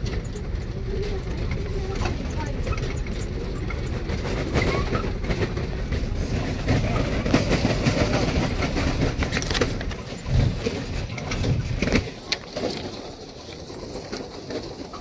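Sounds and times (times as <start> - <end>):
carriages rattling: 0.0 - 15.0
train rumbling: 0.0 - 15.0.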